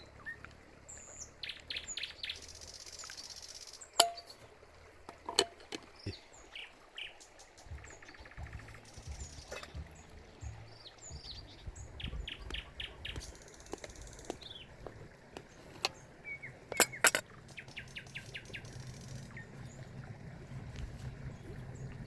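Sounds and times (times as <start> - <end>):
small birds chirping: 0.0 - 4.4, 5.7 - 22.0.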